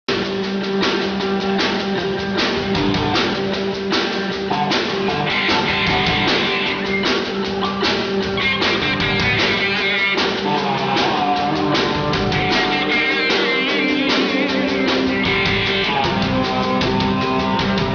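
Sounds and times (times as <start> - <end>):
drum kit beat: 0.1 - 17.9
electric guitars: 0.1 - 17.9.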